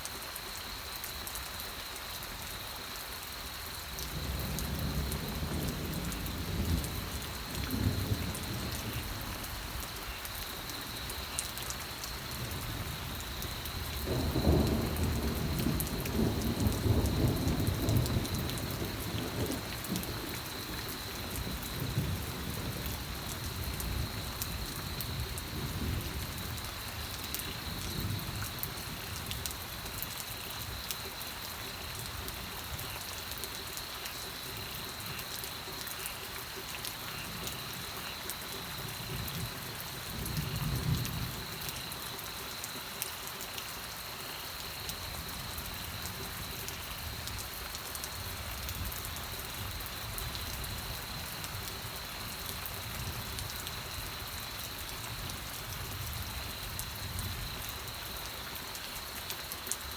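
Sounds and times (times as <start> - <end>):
rain drops ticking on surface: 0.0 - 59.9.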